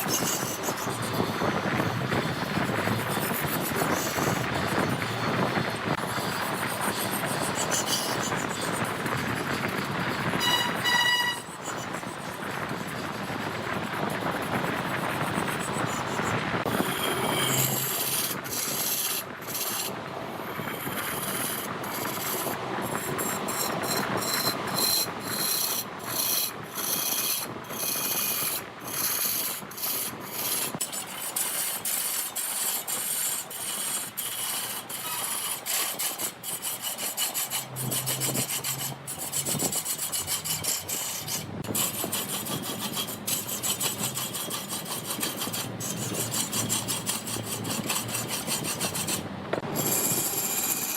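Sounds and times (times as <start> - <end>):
lathe tool scraping wood: 0.0 - 50.9.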